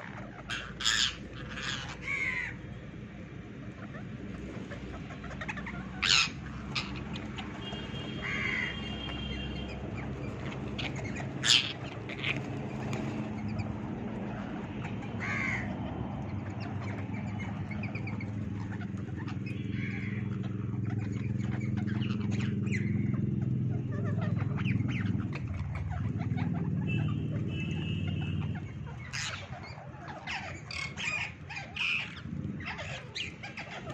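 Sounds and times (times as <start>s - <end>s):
parakeets screeching: 0.0s - 33.9s.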